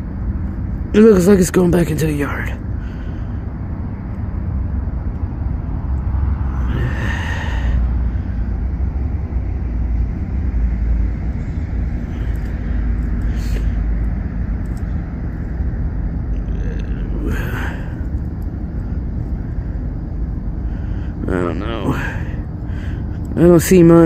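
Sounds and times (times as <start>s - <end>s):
freight train rumbling: 0.0s - 24.0s.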